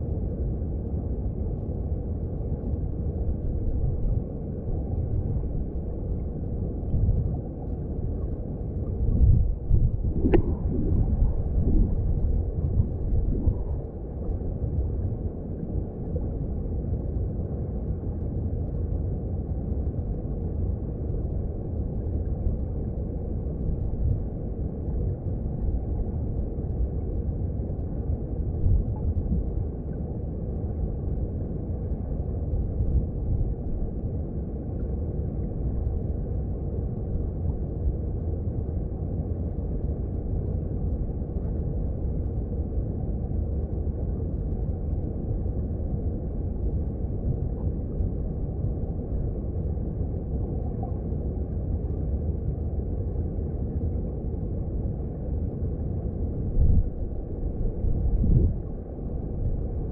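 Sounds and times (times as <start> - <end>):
muffled underwater stream rumble: 0.0 - 59.9.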